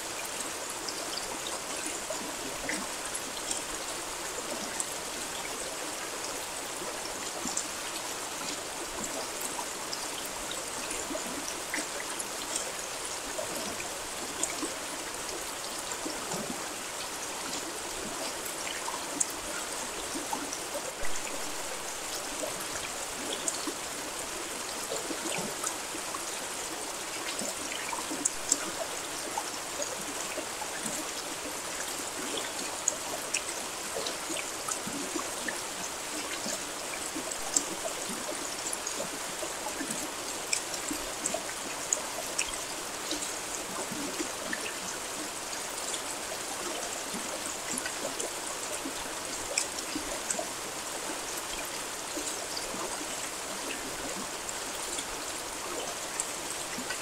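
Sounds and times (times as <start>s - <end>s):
steady rain hiss: 0.0s - 57.0s
raindrops ticking nearby: 0.2s - 57.0s.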